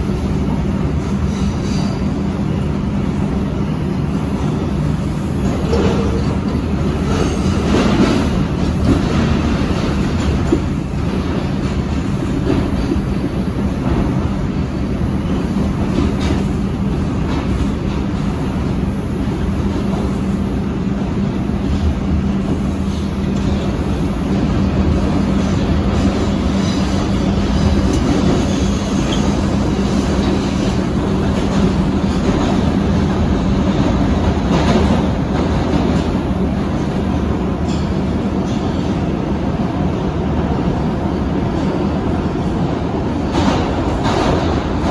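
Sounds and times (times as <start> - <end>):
constant low hum: 0.0 - 44.9
rumble of wheels on rail: 0.0 - 44.9.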